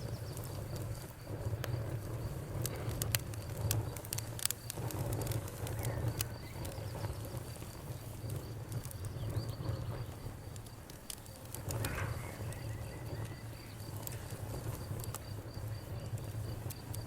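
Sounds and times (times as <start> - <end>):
bonfire crackling and popping: 0.0 - 17.0
crickets chirping: 0.0 - 17.0
fire hissing flare: 0.0 - 17.0.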